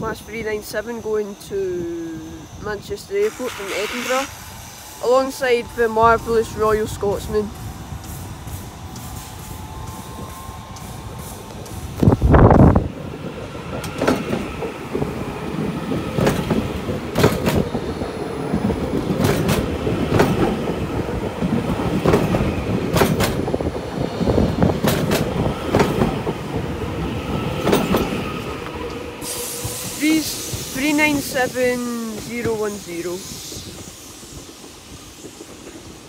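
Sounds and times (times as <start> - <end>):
train rumble and hum: 0.0 - 36.0
train wheels clicking over rail joints: 3.2 - 36.0.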